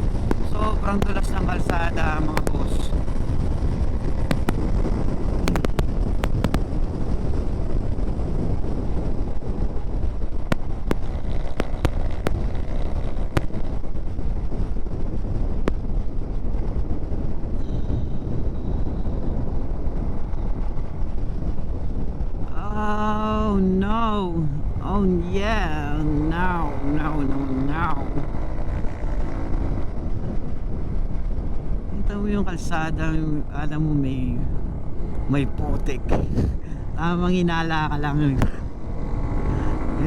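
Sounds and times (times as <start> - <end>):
motorcycle engine: 0.0 - 24.8, 25.4 - 31.9, 38.3 - 40.0
wind rushing on microphone: 0.0 - 40.0.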